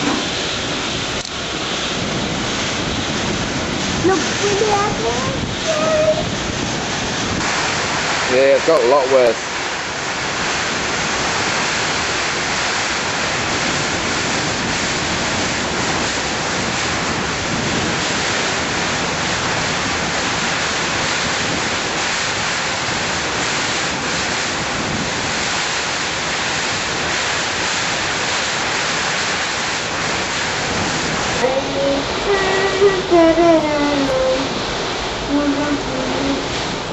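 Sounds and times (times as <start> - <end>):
strong wind: 0.0 - 36.9
torrential rain: 0.0 - 36.9.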